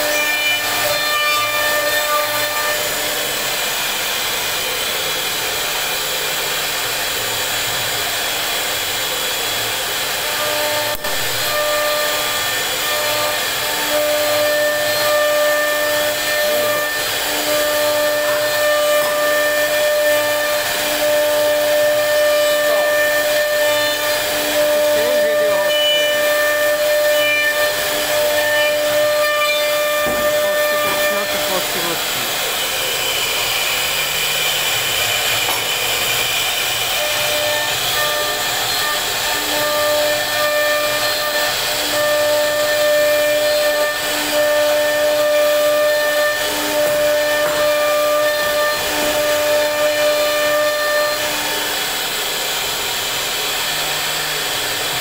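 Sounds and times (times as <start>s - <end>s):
router bit cutting wood hiss: 0.0s - 55.0s.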